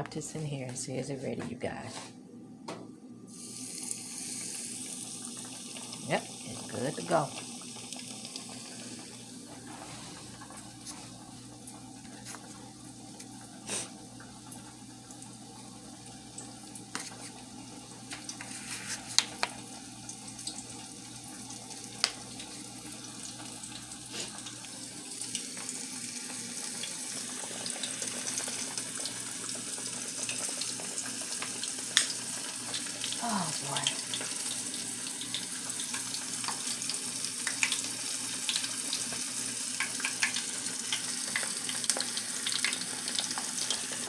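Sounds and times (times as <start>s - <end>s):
food sizzling in hot oil: 3.3s - 44.0s
oil crackling and popping: 3.5s - 14.7s, 16.3s - 44.0s.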